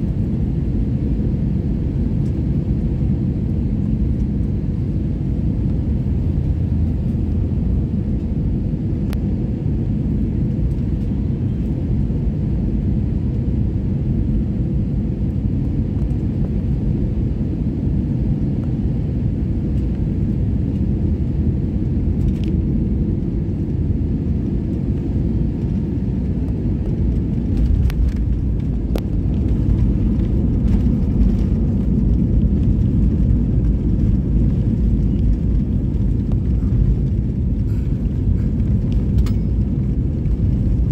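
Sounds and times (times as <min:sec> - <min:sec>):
airliner engine rumble: 0:00.0 - 0:40.9.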